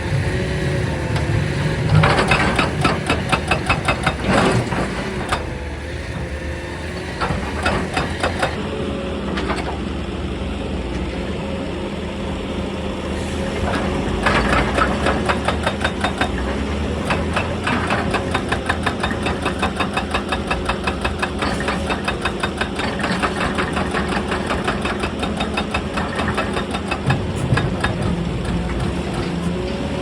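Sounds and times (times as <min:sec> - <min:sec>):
diesel engine running: 0:00.0 - 0:30.0
hydraulic breaker hammering stone: 0:00.1 - 0:08.6, 0:13.6 - 0:30.0.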